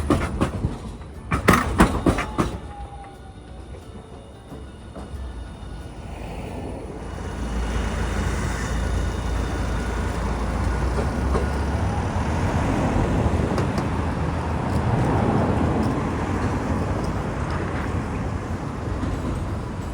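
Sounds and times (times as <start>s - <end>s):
street traffic rumble: 0.0s - 19.9s.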